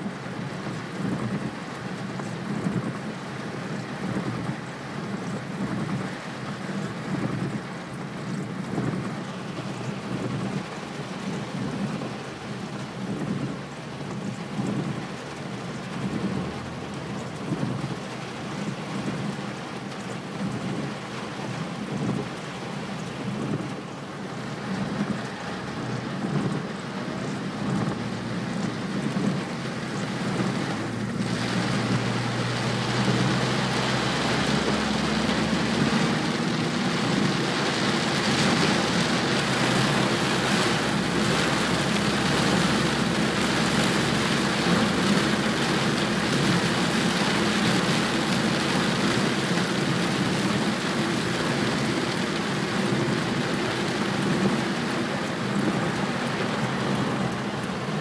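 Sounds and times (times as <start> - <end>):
car and tyres humming on wet road: 0.0 - 58.0
heavy rain on car roof: 0.0 - 58.0.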